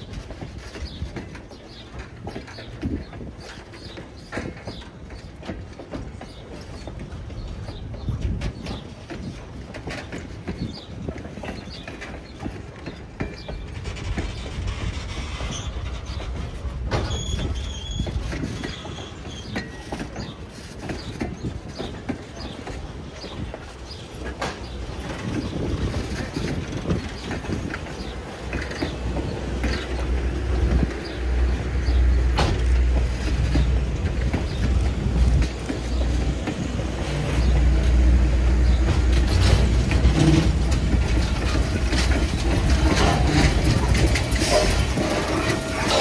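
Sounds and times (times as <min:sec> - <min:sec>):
steam train rumbling: 0:00.0 - 0:46.0
wheels clicking over rail joints: 0:00.0 - 0:46.0.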